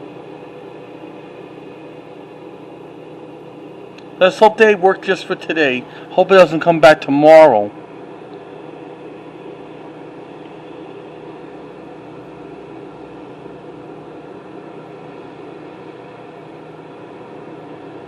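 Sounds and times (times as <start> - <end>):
steady mechanical drone: 0.0 - 18.0.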